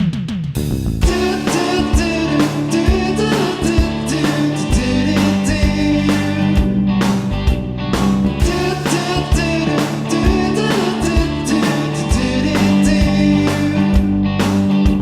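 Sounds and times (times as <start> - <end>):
music with singing and beat: 1.0 - 15.0.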